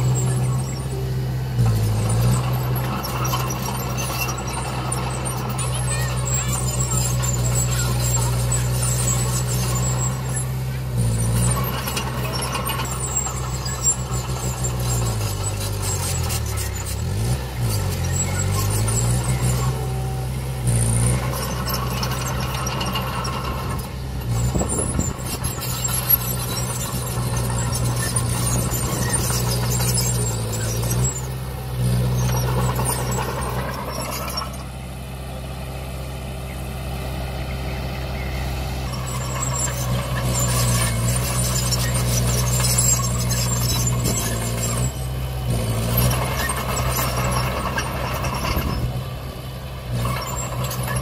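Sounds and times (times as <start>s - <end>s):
high-pitched squeal: 0.0s - 34.7s, 37.7s - 49.0s, 49.9s - 51.0s
bulldozer diesel engine running: 0.0s - 51.0s.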